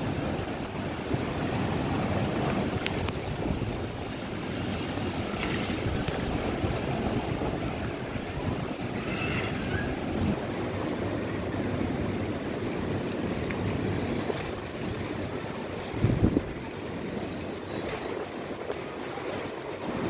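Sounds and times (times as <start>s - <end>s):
wind noise on microphone: 0.0s - 11.0s, 13.4s - 20.0s
rain pouring: 0.0s - 20.0s.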